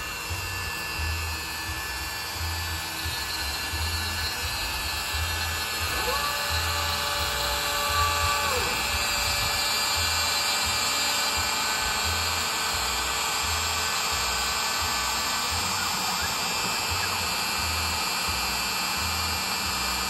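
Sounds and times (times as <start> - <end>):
machine drive whine: 0.0 - 20.0
router cutting wood: 0.0 - 20.0.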